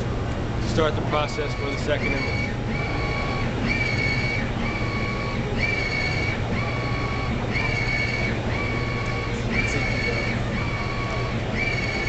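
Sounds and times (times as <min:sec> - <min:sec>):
printer carriage motor whine: 0:00.0 - 0:12.0.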